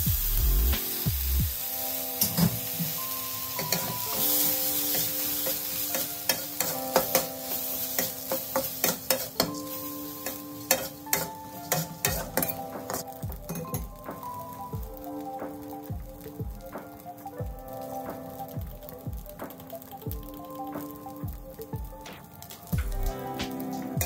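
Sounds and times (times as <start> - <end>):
light sizzle: 0.0 - 24.0.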